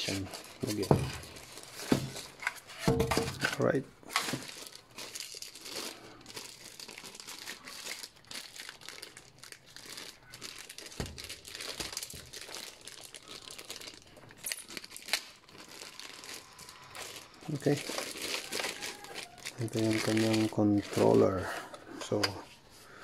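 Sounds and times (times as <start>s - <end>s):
plastic bag crinkling: 0.0s - 2.7s, 3.3s - 22.2s.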